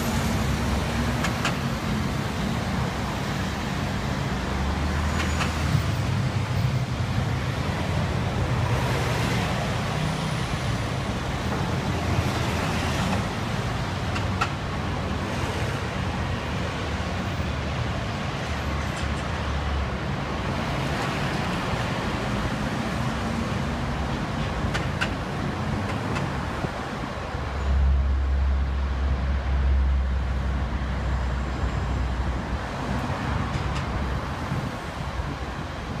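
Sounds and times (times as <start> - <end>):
city street traffic: 0.0 - 36.0.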